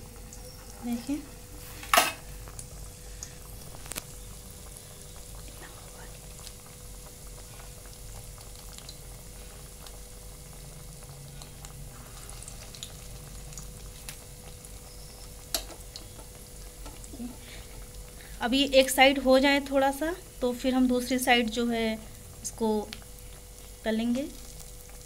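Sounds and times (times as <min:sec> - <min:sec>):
faint steady hum: 0:00.0 - 0:25.0
food bubbling in hot oil: 0:00.0 - 0:25.0.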